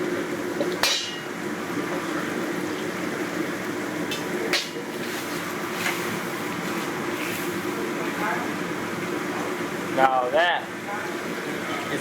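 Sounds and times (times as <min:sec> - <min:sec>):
water sizzling on a hot wok: 0:00.0 - 0:12.0.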